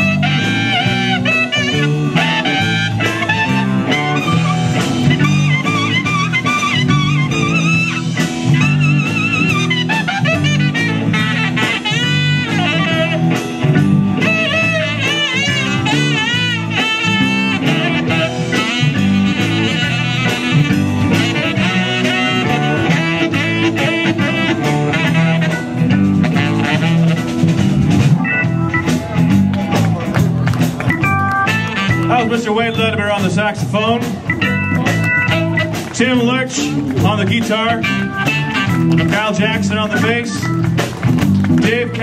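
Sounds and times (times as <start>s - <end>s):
drum kit: 0.0s - 42.0s
electric bass: 0.0s - 42.0s
saxophone lead melody: 0.0s - 42.0s.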